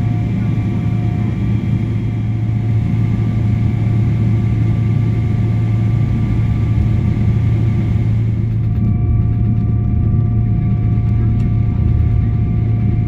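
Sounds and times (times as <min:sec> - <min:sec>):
airplane cabin rumble: 0:00.0 - 0:13.0
faint steady whining tones: 0:00.0 - 0:13.0.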